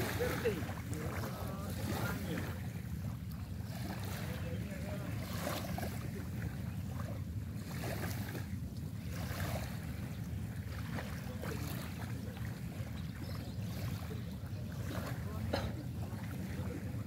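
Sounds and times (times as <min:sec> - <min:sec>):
small waves lapping: 0:00.0 - 0:17.0
water splashes: 0:00.0 - 0:17.0.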